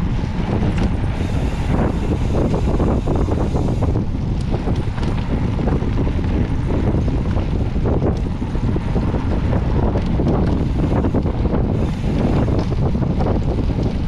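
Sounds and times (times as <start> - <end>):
bike rattles and knocks: 0.0 - 14.0
bike tyres rumbling on dirt: 0.0 - 14.0
wind on camera microphone: 0.0 - 14.0.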